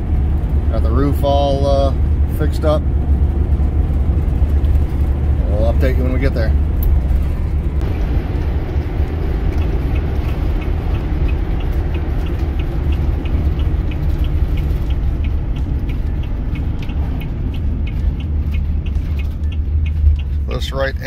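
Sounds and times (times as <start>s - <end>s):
engine and road rumble: 0.0s - 21.0s
turn signal ticking: 0.0s - 21.0s.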